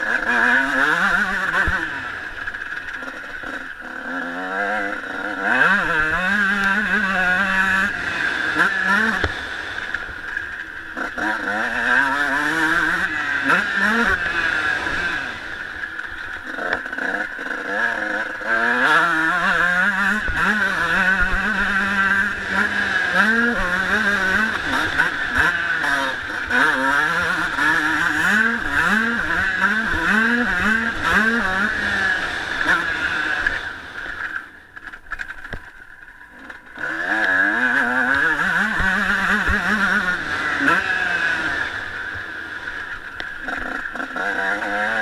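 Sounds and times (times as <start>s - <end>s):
motocross engine revving: 0.0s - 45.0s.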